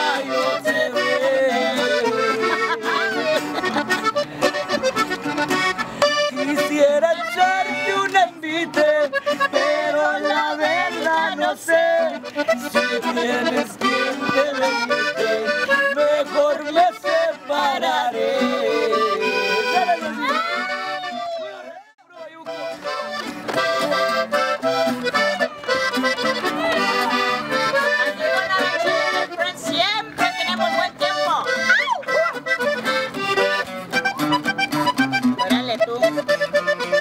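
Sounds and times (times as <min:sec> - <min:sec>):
button accordion playing: 0:00.0 - 0:37.0.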